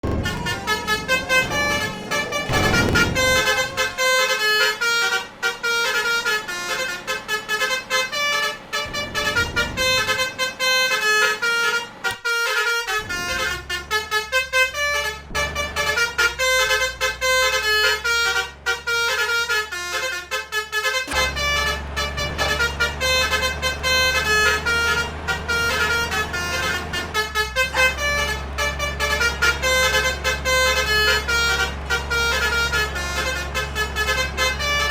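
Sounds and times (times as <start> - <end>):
multi-tone air horns playing a tune: 0.0 - 34.9.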